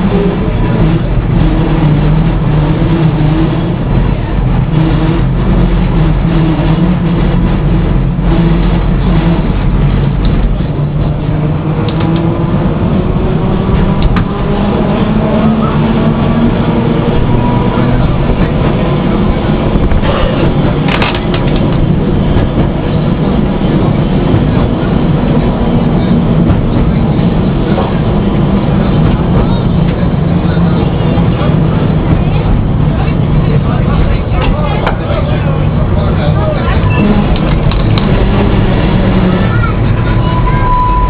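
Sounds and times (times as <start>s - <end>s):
tram rumbling on rails: 0.0s - 41.0s.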